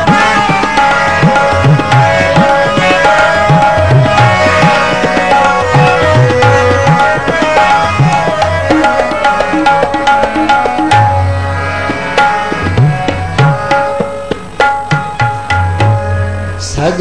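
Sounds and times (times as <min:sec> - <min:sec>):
harmonium chords: 0:00.0 - 0:17.0
tabla rhythm: 0:00.0 - 0:17.0.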